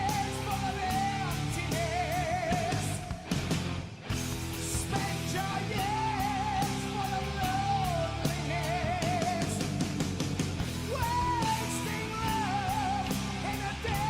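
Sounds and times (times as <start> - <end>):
rock music with guitar and drums: 0.0 - 14.0.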